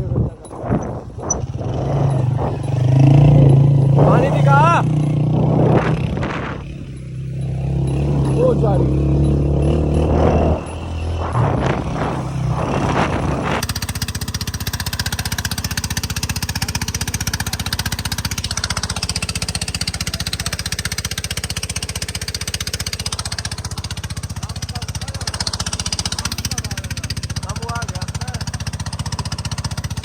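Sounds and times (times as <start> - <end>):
engine chugging: 0.0 - 30.0
voices: 0.0 - 30.0.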